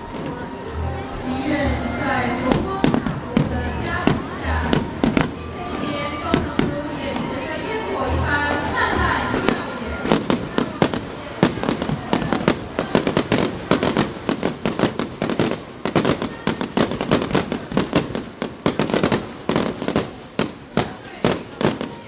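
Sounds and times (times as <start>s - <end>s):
fireworks banging: 2.4s - 7.6s, 8.7s - 22.0s.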